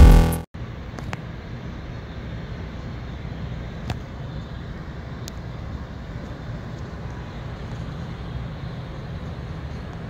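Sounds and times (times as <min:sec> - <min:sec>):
low outdoor rumble: 0:00.0 - 0:10.0
distant engine noise: 0:00.6 - 0:10.0.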